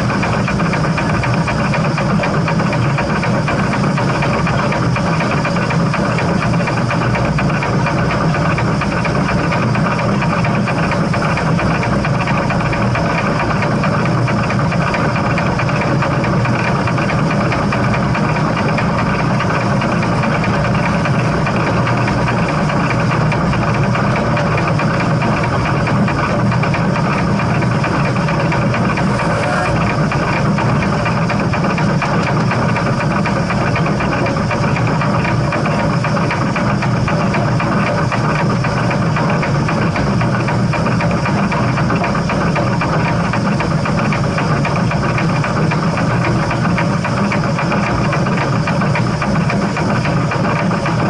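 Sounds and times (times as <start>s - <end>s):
steam train rumbling: 0.0s - 51.0s.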